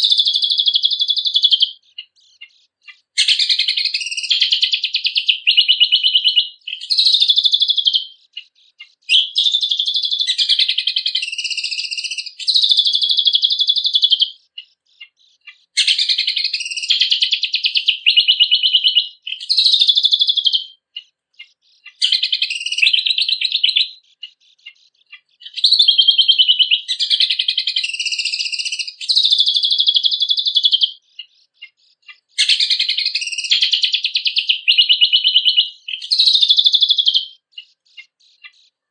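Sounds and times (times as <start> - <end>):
songbird singing chattering phrases: 0.0 - 38.9.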